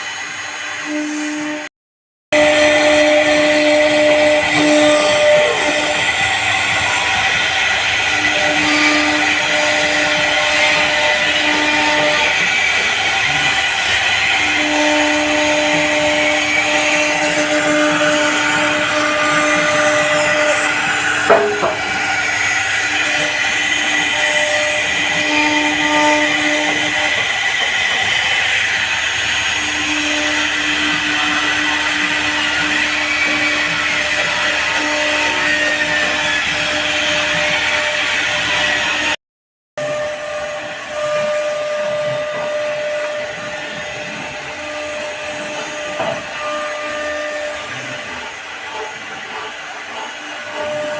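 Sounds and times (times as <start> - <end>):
cnc router spindle running: 0.0 - 1.7, 2.4 - 39.2, 39.8 - 50.9.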